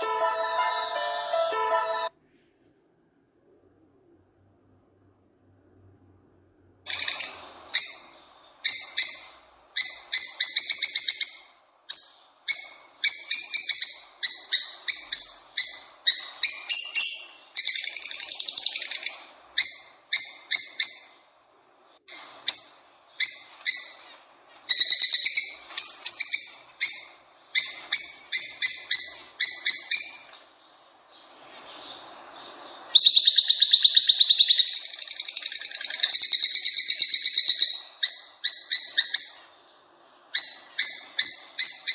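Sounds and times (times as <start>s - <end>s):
songbird singing: 6.9s - 41.9s.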